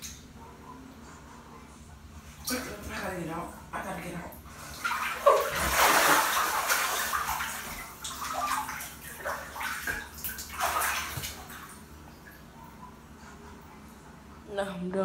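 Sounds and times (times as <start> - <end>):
bathtub water sloshing and splashing: 0.0 - 0.4, 2.0 - 14.5.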